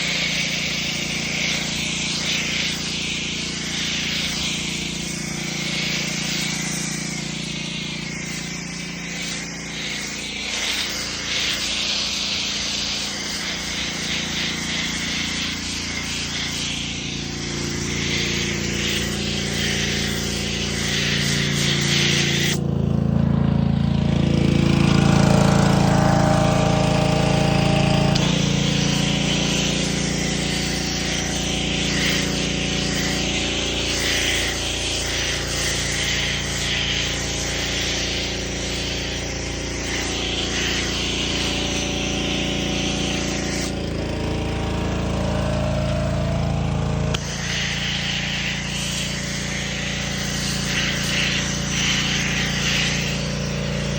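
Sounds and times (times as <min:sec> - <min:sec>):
deep humming tone: 0:00.0 - 0:53.9
machine hissing over low hum: 0:00.0 - 0:53.9.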